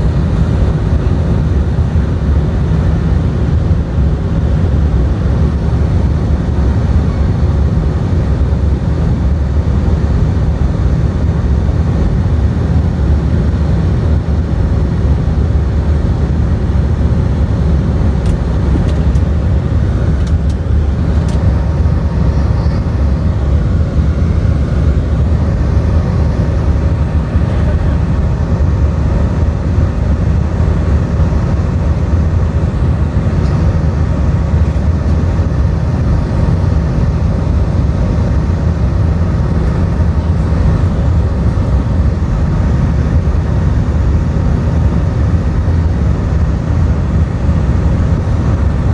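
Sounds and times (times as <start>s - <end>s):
jet engine rumble in cabin: 0.0s - 48.9s.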